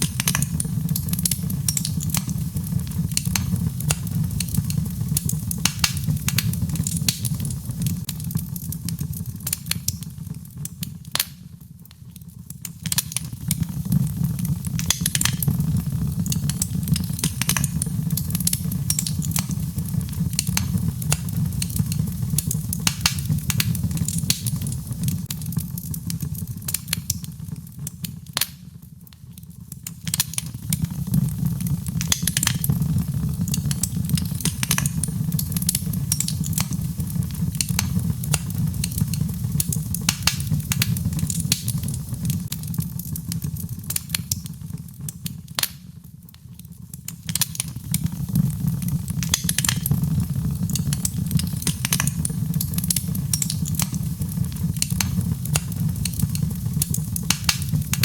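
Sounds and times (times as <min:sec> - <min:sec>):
logs crackling in a fireplace: 0:00.0 - 0:58.0.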